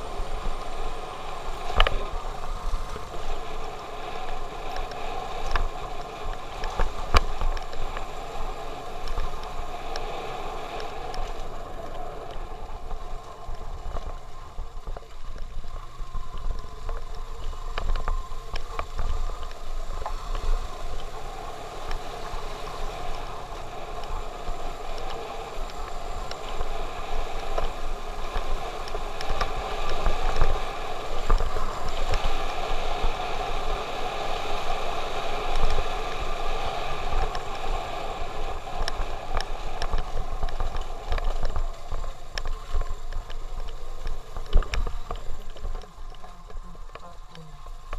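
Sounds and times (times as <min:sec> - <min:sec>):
wind rumble on microphone: 0:00.0 - 0:47.9.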